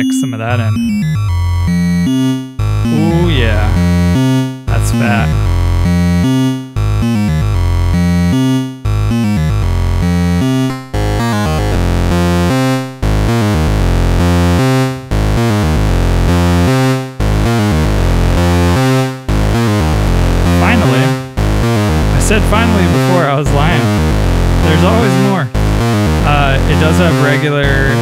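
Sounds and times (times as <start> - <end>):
buzzy stepped synth tone: 0.0 - 28.0.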